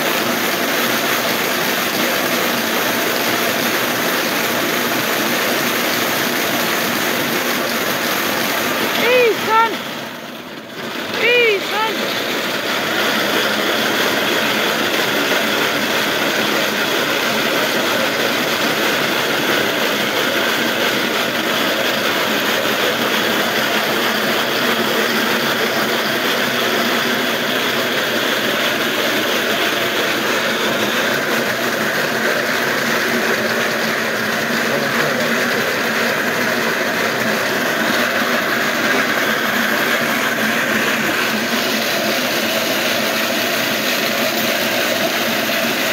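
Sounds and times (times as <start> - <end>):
wooden slat mill turning: 0.0 - 45.9.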